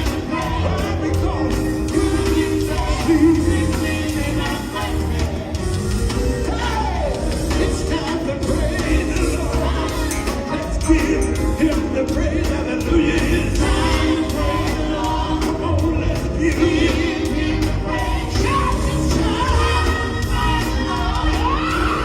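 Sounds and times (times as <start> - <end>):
band with steady bass: 0.0 - 22.0
voices singing gospel: 0.0 - 22.0.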